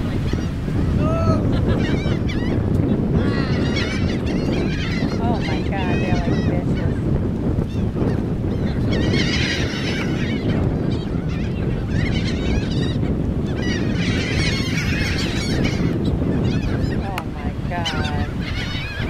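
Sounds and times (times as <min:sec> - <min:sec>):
seagulls squawking: 0:00.0 - 0:07.0, 0:07.6 - 0:19.0.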